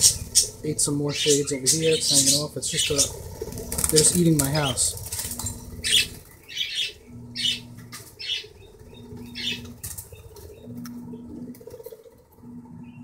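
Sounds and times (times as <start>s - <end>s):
parrot wings flapping: 0.0s - 12.4s.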